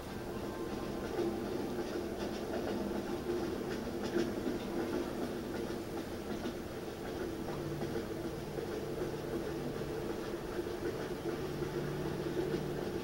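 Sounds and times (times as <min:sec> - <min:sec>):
recorded train over loudspeakers: 0:00.0 - 0:13.0.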